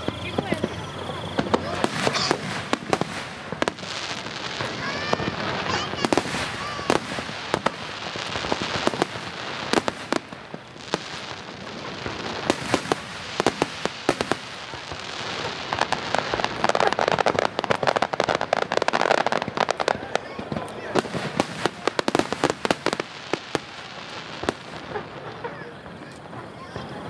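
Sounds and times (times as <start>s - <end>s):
firework shells bursting: 0.0s - 26.3s
firework crackling: 0.0s - 27.0s.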